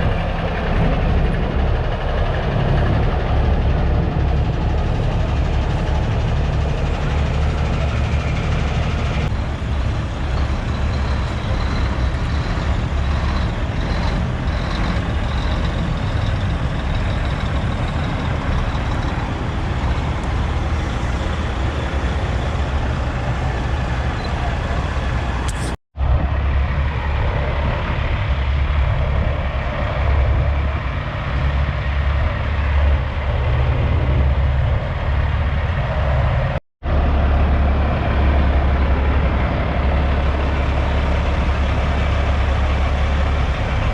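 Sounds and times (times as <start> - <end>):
diesel truck engines rumbling: 0.0 - 43.9.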